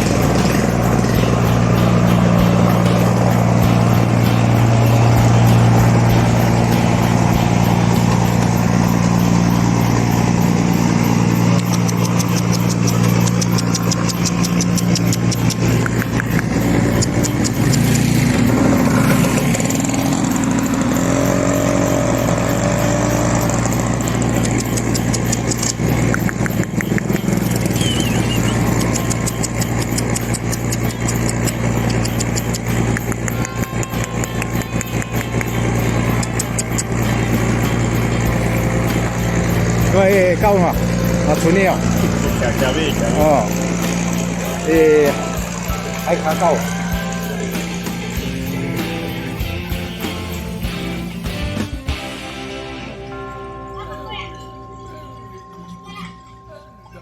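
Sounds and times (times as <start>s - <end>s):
light rattling and ticking: 0.0s - 50.4s
engine running steadily: 0.0s - 52.2s.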